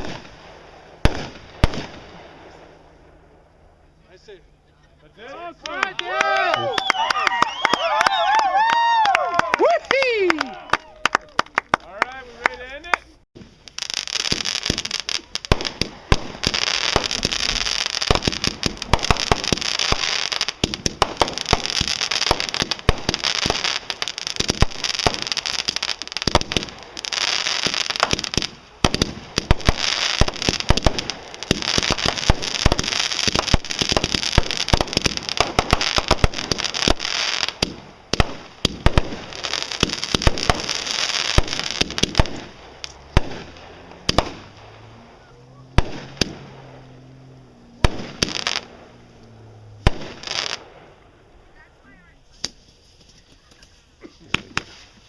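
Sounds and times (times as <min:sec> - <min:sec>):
fireworks crackling pops: 0:00.0 - 0:03.7, 0:05.4 - 0:55.0.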